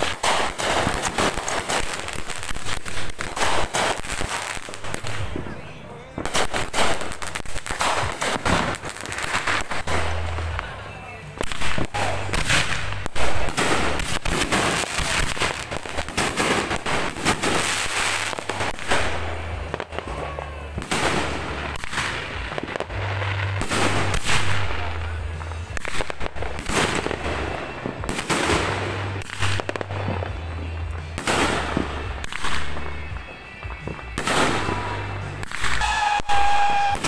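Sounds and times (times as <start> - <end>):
fireworks crackling bangs: 0.0 - 37.0.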